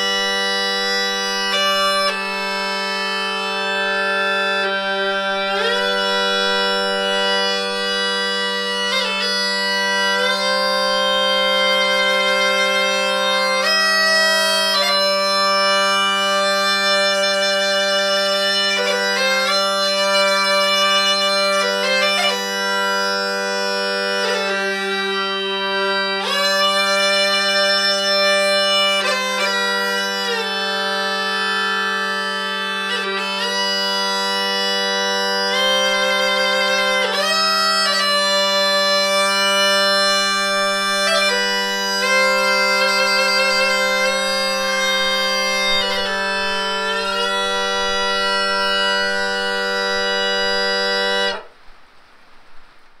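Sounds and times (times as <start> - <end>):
bagpipe playing folk tune: 0.0 - 51.6.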